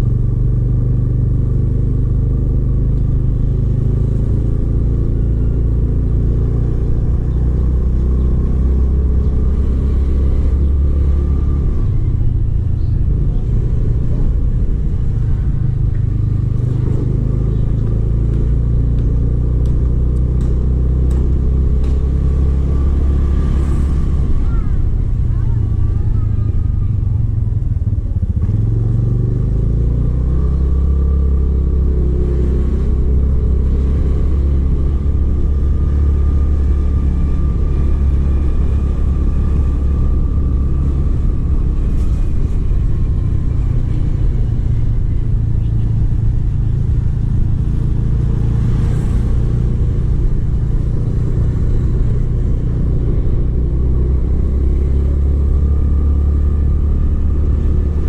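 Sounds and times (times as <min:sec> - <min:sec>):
faint engine whine: 0:00.0 - 0:58.0.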